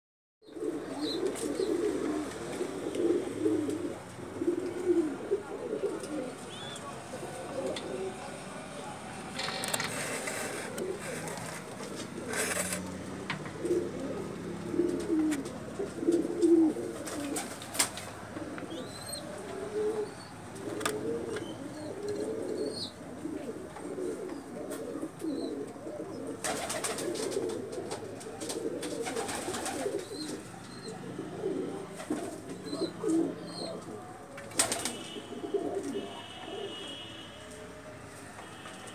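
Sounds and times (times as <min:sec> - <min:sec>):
pigeons cooing: 0:00.4 - 0:37.2.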